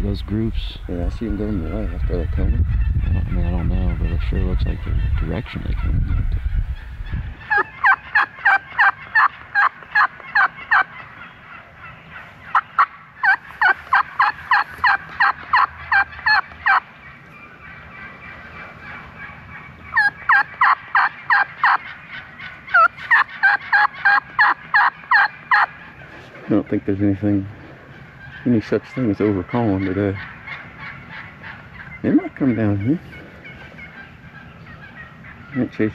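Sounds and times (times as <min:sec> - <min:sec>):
turkey call yelps: 0:00.8 - 0:26.3, 0:27.6 - 0:35.9.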